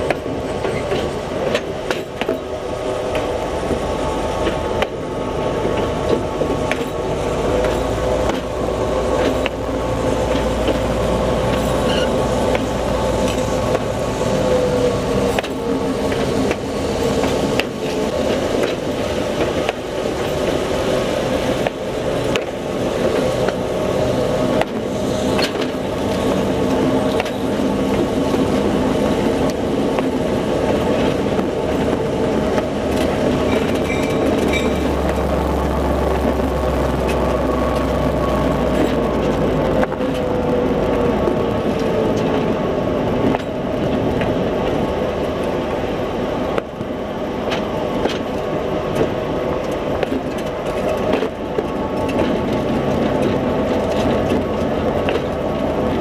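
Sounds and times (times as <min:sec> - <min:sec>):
train running drone on track: 0:00.0 - 0:56.0
wheels clicking over rail joints: 0:00.0 - 0:56.0.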